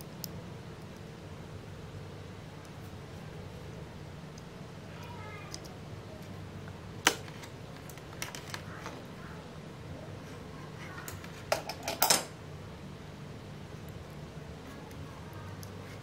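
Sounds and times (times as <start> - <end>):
faint steady low hum: 0.0 - 16.0.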